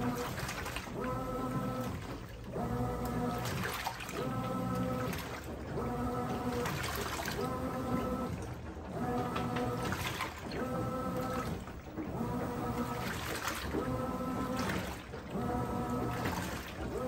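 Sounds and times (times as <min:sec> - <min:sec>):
washing machine motor humming: 0:00.0 - 0:17.0
water sloshing: 0:00.0 - 0:17.0.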